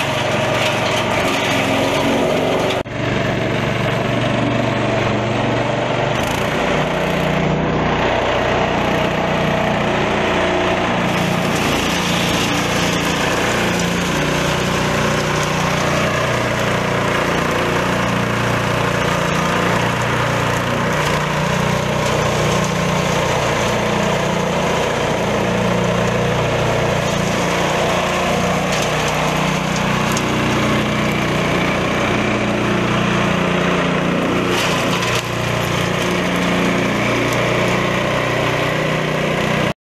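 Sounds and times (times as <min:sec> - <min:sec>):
shredder chopping plant material: 0:00.0 - 0:39.8
small petrol engine running: 0:00.0 - 0:39.8.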